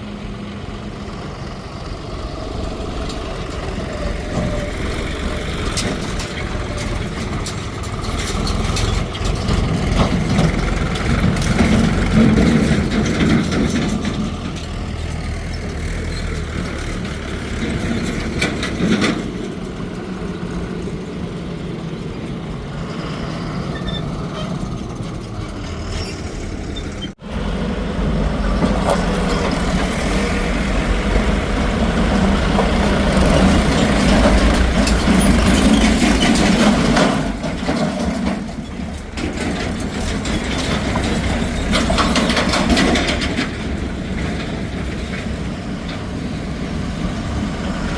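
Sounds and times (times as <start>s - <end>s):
heavy diesel machinery running: 0.0s - 47.9s.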